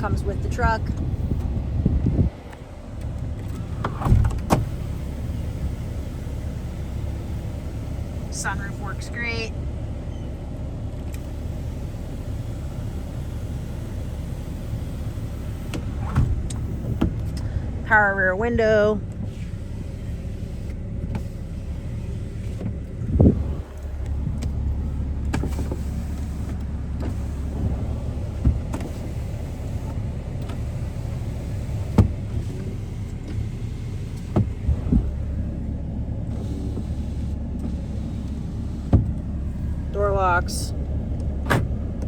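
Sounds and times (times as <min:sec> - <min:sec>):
window motor humming: 0:00.0 - 0:17.8, 0:19.0 - 0:40.2.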